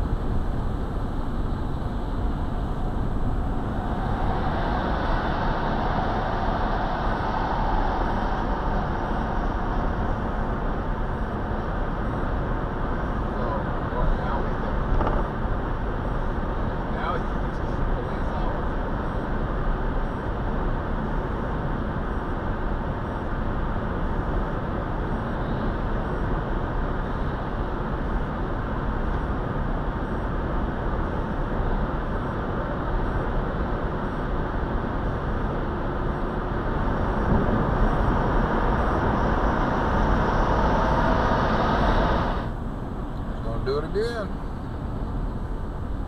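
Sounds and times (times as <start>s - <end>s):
car road and wind noise: 0.0s - 46.0s.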